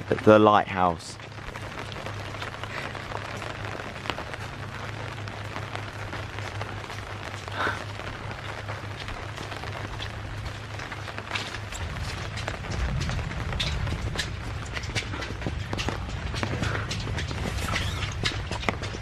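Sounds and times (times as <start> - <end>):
rain drops ticking: 0.0 - 19.0.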